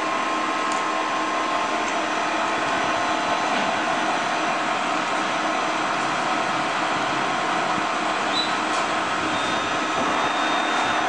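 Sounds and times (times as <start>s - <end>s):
lathe machine whine: 1.1s - 11.0s.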